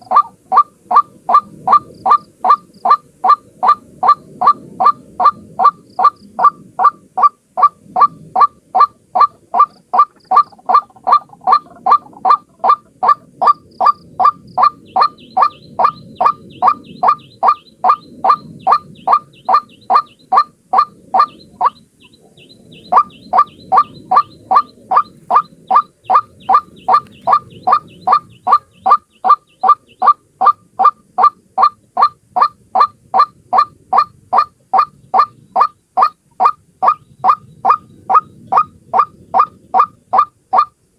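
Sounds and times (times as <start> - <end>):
bird repeating harsh call: 0.0 - 40.7.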